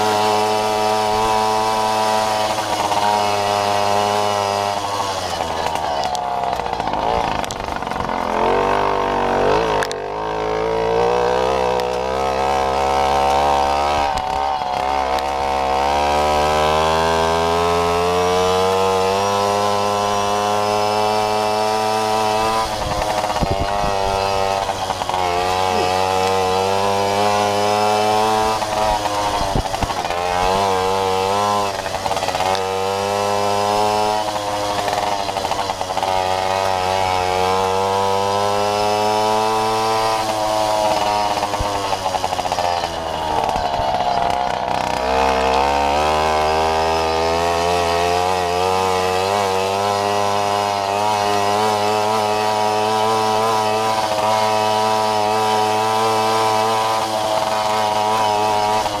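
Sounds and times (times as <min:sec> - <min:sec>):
moped engine revving: 0:00.0 - 0:59.0.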